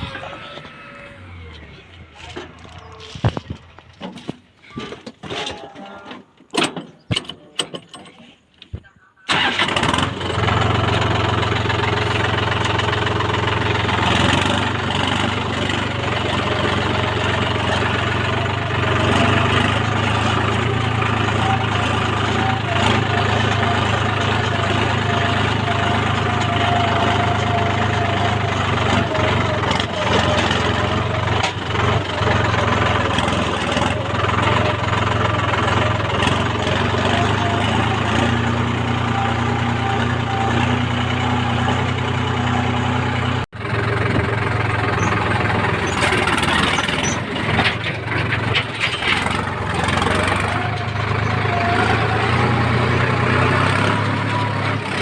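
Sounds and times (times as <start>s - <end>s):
heavy diesel engine running: 0.0s - 4.7s, 9.3s - 55.0s.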